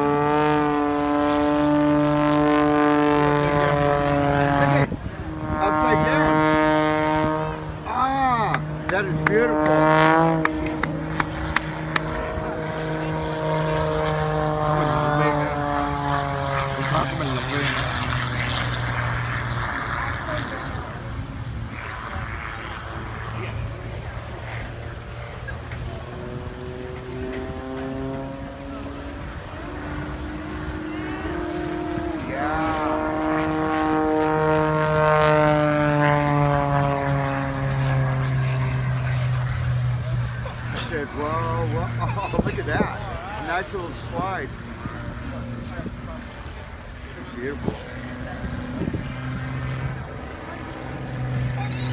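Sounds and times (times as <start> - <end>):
airplane engine drone: 0.0 - 51.9
crowd voices: 3.3 - 6.6, 7.2 - 34.7, 35.4 - 51.9.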